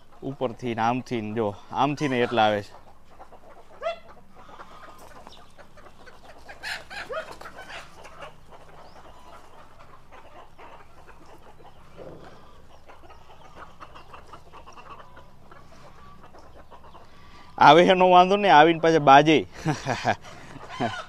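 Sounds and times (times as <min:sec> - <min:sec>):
hens and roosters clucking: 0:00.0 - 0:21.0.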